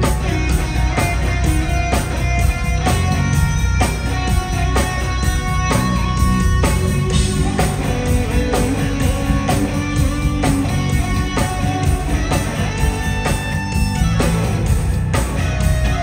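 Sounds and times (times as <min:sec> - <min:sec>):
bass guitar: 0:00.0 - 0:16.0
drum kit steady beat: 0:00.0 - 0:16.0
lead electric guitar melody: 0:00.0 - 0:16.0.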